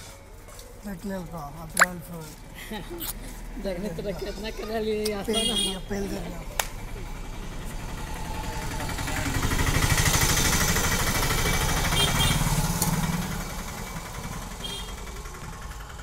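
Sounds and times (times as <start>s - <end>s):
vehicle engine running: 0.2s - 16.0s.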